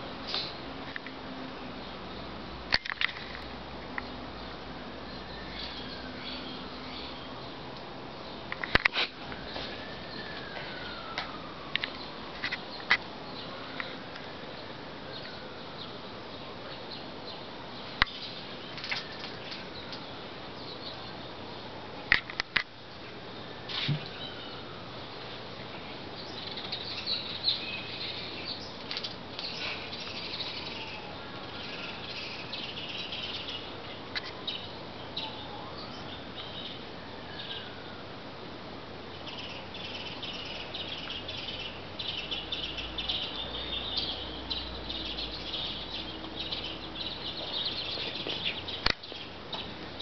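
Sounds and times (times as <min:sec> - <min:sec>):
birds chirping and twittering: 0:00.0 - 0:38.1, 0:39.0 - 0:50.0.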